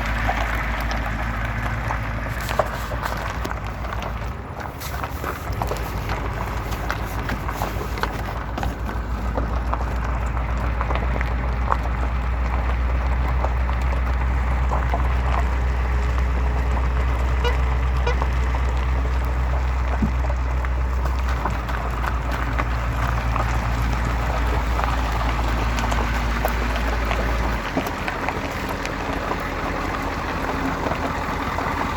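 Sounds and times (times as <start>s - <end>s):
bus engine drone: 0.0s - 31.9s.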